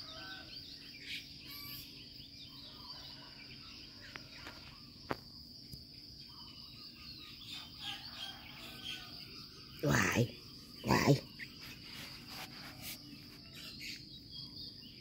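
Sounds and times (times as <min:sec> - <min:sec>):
birds chirping: 0:00.0 - 0:15.0
insects droning: 0:00.0 - 0:15.0.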